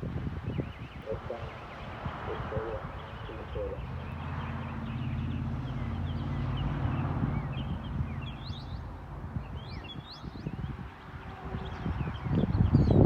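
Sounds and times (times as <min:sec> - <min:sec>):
vehicle engine humming: 0:00.0 - 0:13.0
small birds chirping: 0:00.4 - 0:13.0.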